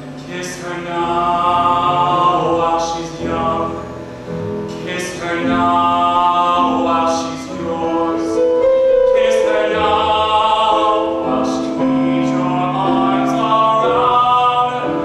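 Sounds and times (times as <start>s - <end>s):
piano accompaniment: 0.0s - 15.0s
man singing a slow ballad: 0.2s - 4.0s, 4.7s - 15.0s.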